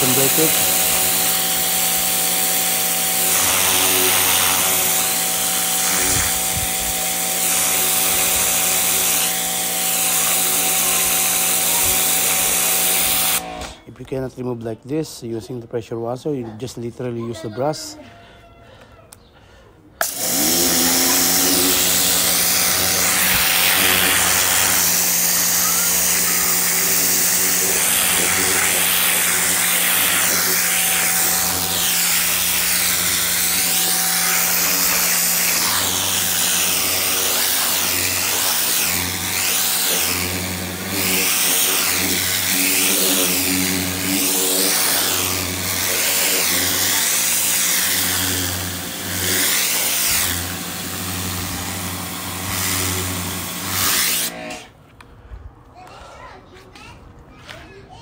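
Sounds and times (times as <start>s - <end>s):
water jet hissing on carpet: 0.0s - 13.4s, 20.0s - 54.4s
pressure washer motor humming: 0.0s - 13.8s, 20.0s - 54.7s.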